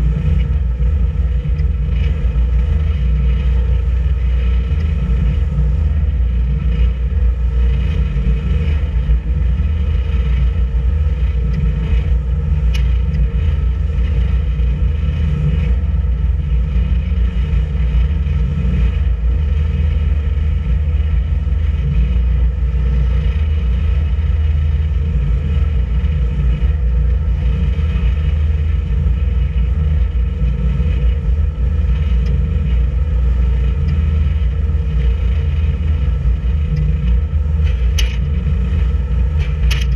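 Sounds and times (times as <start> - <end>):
boat engine rumbling: 0.0 - 39.9.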